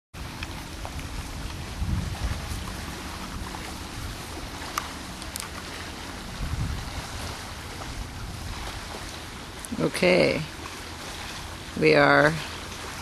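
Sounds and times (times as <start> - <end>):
wind on microphone: 0.2 - 13.0.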